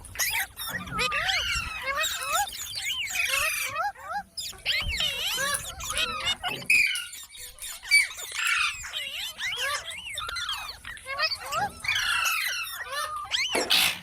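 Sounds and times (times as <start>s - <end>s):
parrot chattering and squawking: 0.0s - 14.0s.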